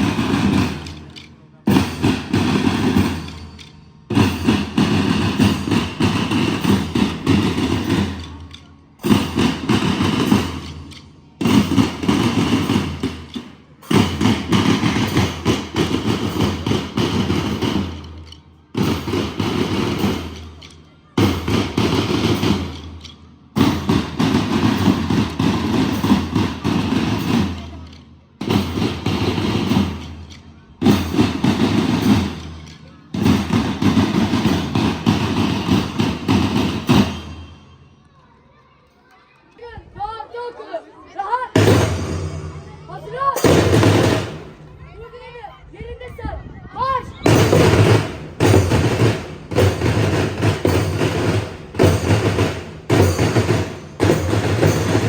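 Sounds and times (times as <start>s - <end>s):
marching band drum cadence: 0.0s - 38.7s, 41.1s - 55.0s.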